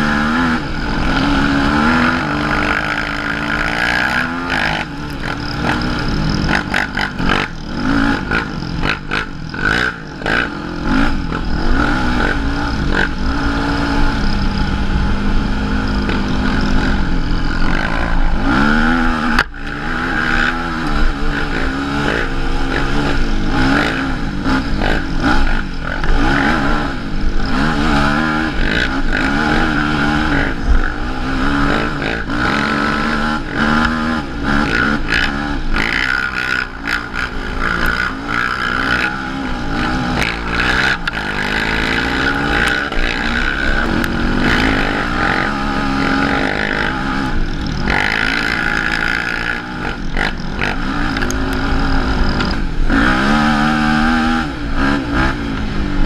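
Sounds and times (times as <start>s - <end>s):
rattle on rough ground: 0.0s - 54.4s
atv engine revving: 0.0s - 56.0s.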